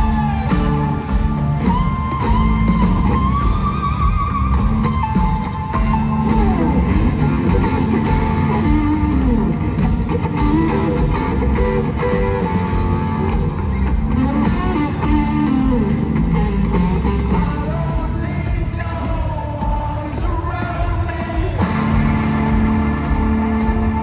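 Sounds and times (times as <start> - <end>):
electric guitar melody: 0.0 - 18.7, 21.4 - 24.0
live rock band: 0.0 - 24.0.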